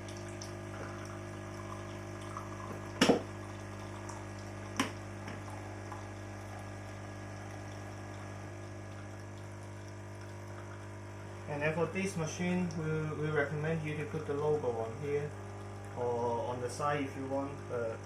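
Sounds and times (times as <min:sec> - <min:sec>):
coffee machine pump running: 0:00.0 - 0:18.0.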